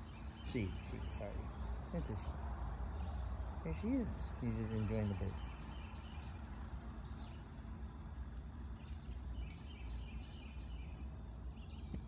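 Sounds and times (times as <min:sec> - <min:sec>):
faint bird chirps: 0:00.0 - 0:12.0
high insect drone: 0:00.0 - 0:12.0.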